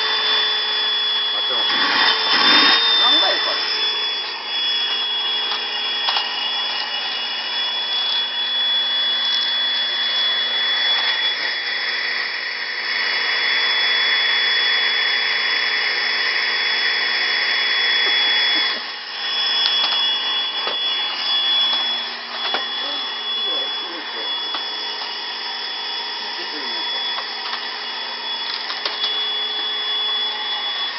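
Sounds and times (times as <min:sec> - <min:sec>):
vacuum cleaner whining: 0:00.0 - 0:30.9.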